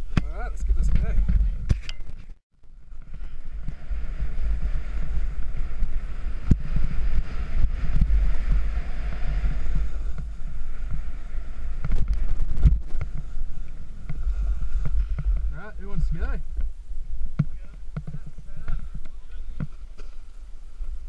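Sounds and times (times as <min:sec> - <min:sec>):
wind buffeting microphone: 0:00.0 - 0:21.0
snowboard scraping over snow: 0:03.0 - 0:21.0.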